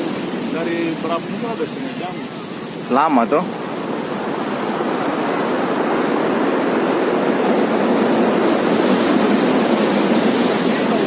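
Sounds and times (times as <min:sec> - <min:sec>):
heavy rain: 0:00.0 - 0:11.0
wind: 0:00.0 - 0:11.0.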